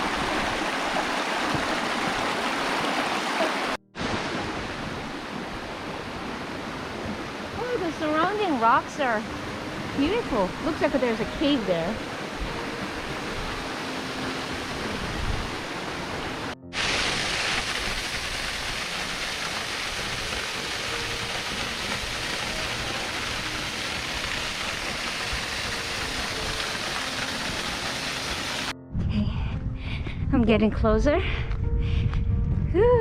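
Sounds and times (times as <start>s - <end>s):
water rushing: 0.0s - 28.7s.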